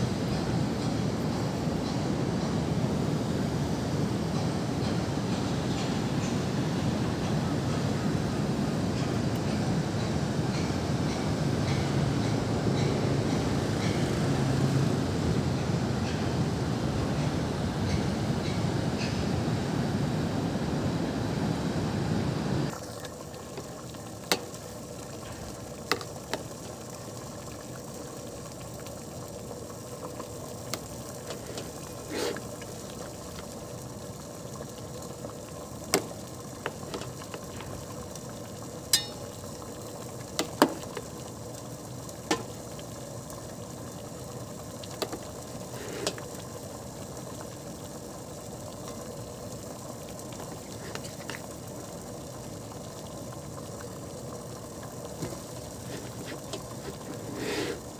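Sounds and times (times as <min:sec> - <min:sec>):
steady low hiss: 0:00.0 - 0:57.9.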